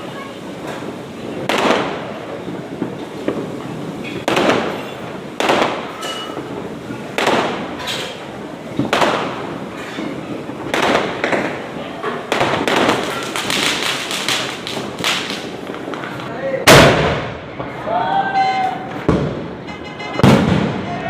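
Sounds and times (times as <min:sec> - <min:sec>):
loud firecracker bangs: 0:00.0 - 0:21.0.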